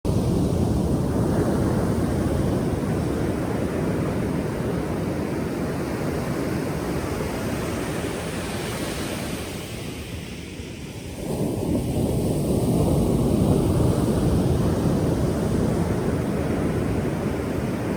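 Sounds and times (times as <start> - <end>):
ocean waves breaking on shore: 0.1 - 17.9.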